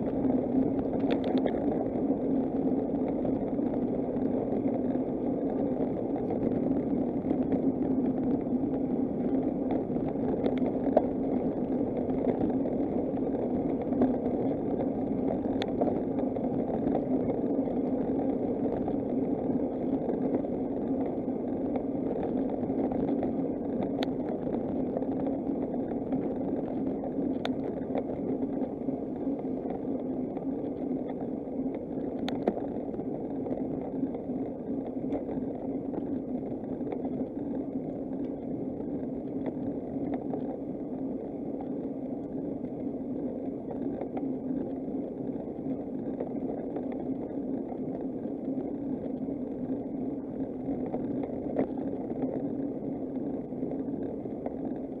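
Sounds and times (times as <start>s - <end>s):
bicycle tyre noise on road: 0.0s - 55.0s.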